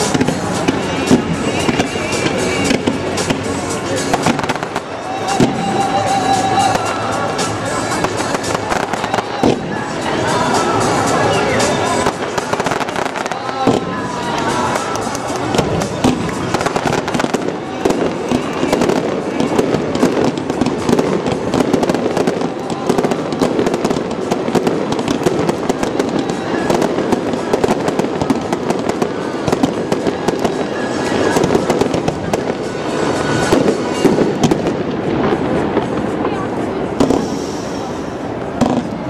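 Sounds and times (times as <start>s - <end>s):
fireworks crackling and popping: 0.0s - 39.0s
music: 0.0s - 39.0s.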